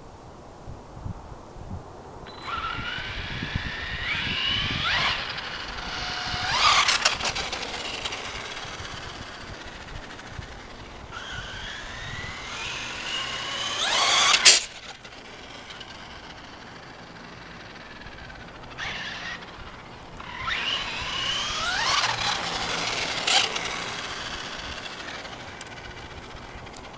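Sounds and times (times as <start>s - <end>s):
electric motor whine: 2.3s - 26.9s.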